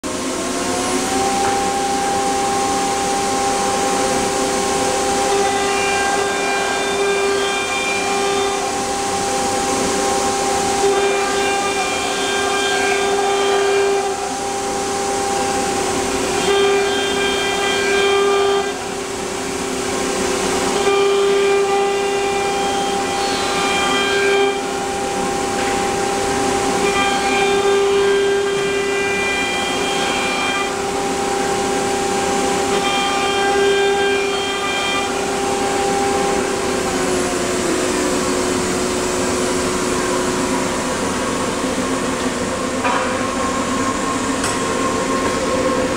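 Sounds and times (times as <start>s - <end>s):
router cutting sound: 0.1s - 19.0s, 20.6s - 40.5s
router spindle high whine: 0.1s - 45.9s.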